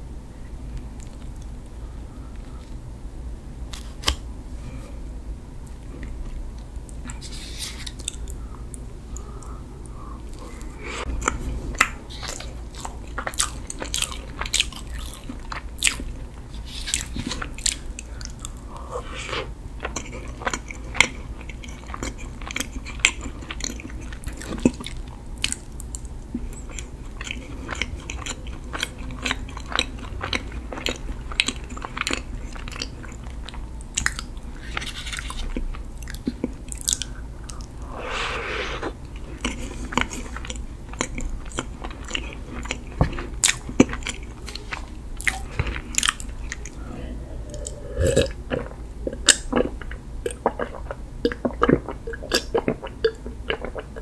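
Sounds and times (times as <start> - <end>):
chewing cake: 6.0 - 54.0.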